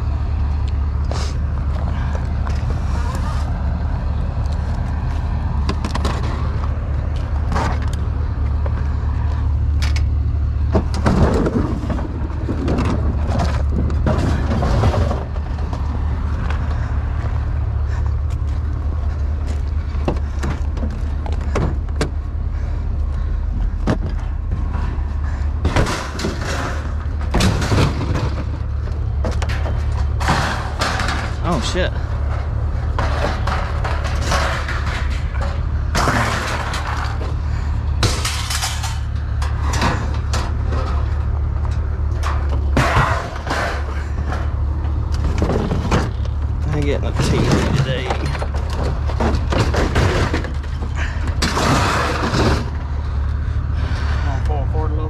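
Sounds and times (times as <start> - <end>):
low engine rumble: 0.0 - 55.0
scrap metal clanking: 10.7 - 54.8.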